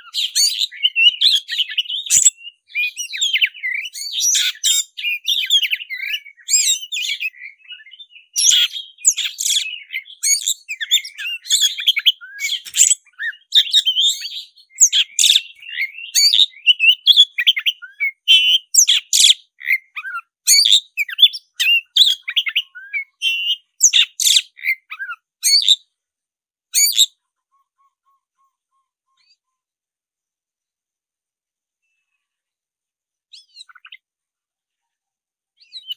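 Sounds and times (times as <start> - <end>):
songbird singing whistles and chirps: 0.0 - 26.0, 26.7 - 29.7, 33.3 - 34.1, 35.6 - 35.9.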